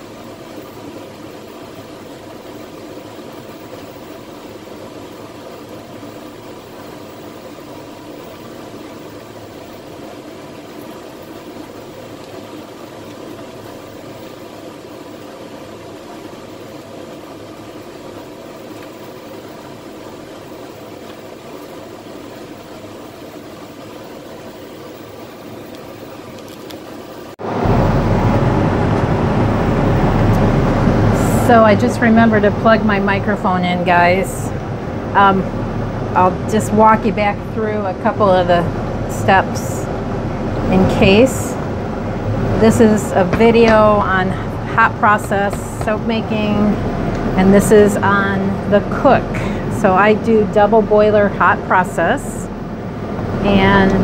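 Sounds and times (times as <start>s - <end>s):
water boiling: 0.0s - 54.0s.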